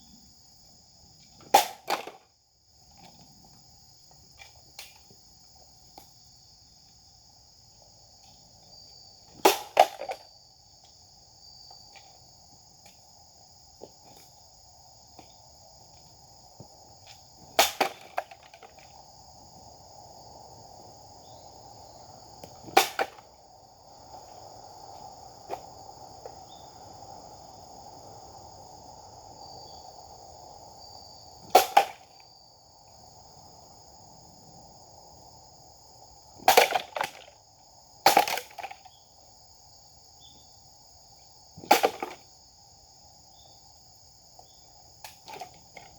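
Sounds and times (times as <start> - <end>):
insect drone: 0.0 - 45.9.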